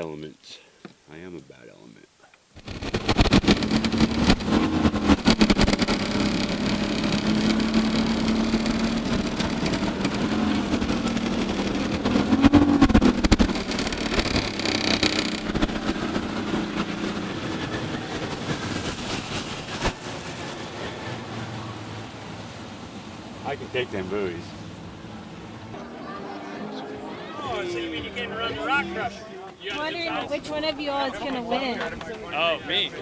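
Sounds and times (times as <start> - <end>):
motorboat engine running: 2.6 - 30.7.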